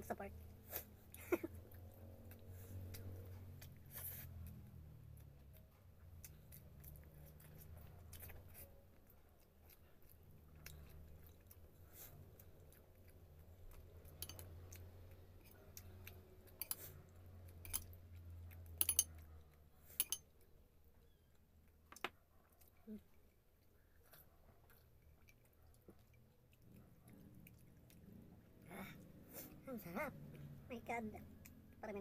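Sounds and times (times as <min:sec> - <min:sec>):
close-up chewing: 0:00.4 - 0:32.0.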